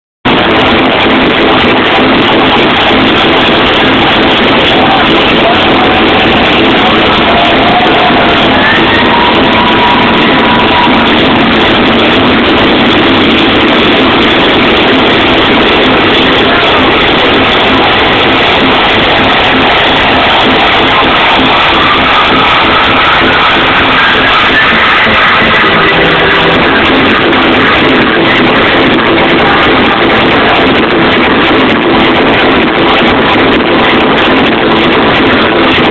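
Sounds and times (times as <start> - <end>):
distorted electronic dance music: 0.0 - 35.9.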